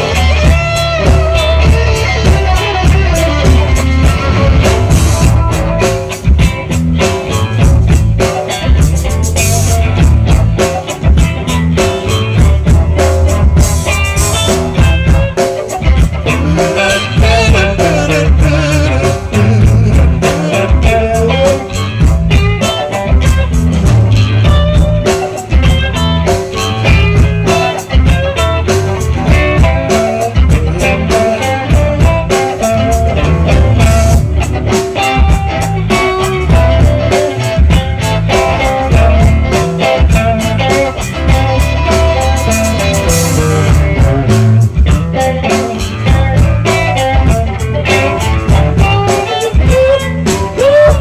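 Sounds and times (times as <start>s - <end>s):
bass guitar: 0.0s - 51.0s
drum kit: 0.0s - 51.0s
electric guitar lead: 0.0s - 51.0s.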